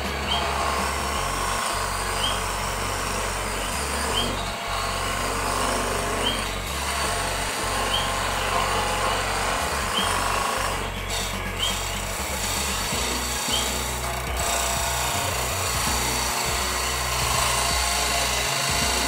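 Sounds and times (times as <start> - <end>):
turning tool cutting wood: 0.0 - 19.0
wood lathe running: 0.0 - 19.0.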